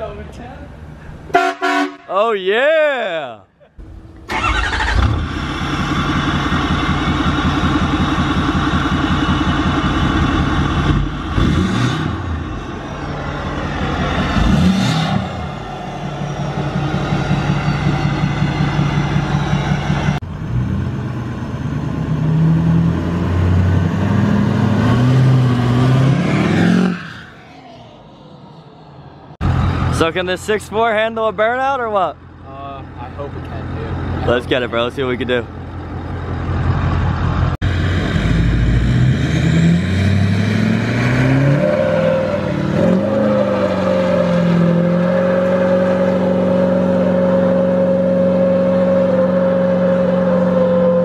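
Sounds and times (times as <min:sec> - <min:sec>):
diesel engine revving: 0:03.8 - 0:51.0.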